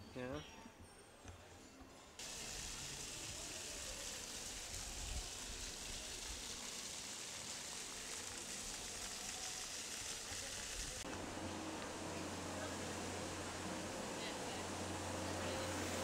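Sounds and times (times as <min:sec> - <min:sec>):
fountain jets spraying water: 0:02.2 - 0:16.0.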